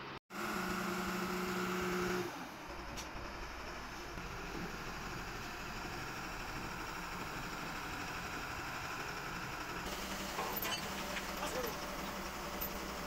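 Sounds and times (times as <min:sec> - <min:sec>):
diesel engine idling: 0:02.3 - 0:13.0.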